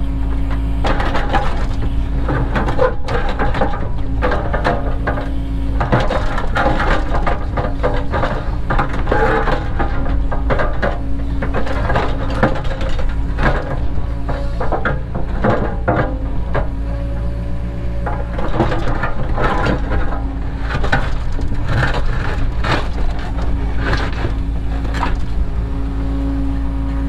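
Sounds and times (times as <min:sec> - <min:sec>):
diesel engine running: 0:00.0 - 0:27.0
excavator bucket clanking and scraping: 0:00.0 - 0:27.0.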